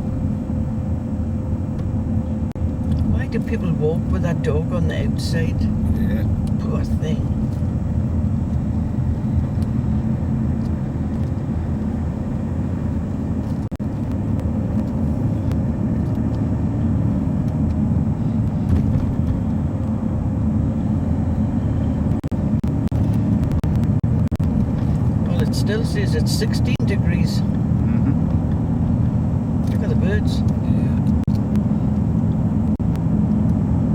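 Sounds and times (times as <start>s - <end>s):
engine and road drone: 0.0s - 33.9s.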